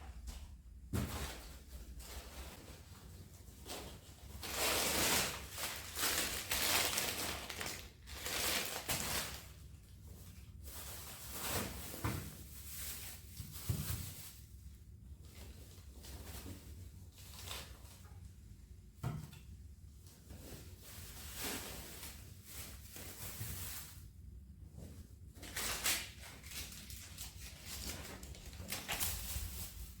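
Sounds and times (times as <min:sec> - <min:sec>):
rustling and handling noises: 0:00.0 - 0:30.0.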